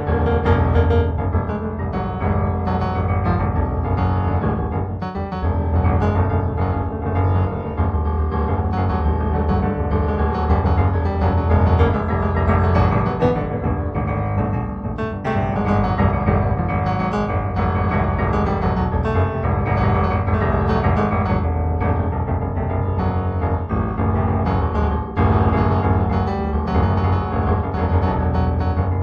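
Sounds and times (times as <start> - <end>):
solo piano music: 0.0 - 29.0
sustained low bass: 0.0 - 29.0.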